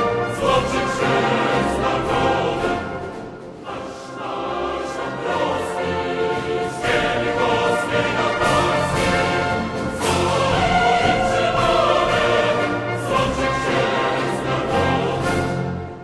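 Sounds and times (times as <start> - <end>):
choir singing with orchestra: 0.0 - 16.0.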